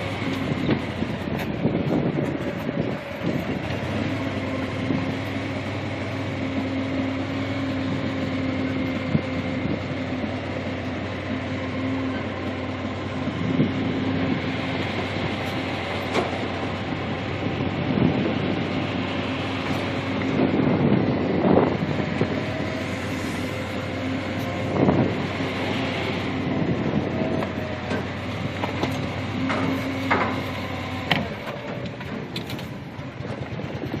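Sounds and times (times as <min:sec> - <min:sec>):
vehicle running: 0:00.0 - 0:34.0.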